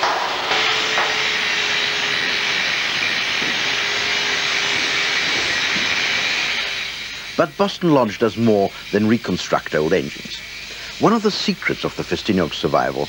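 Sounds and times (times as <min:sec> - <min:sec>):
angle grinder grinding metal: 0:00.0 - 0:13.0.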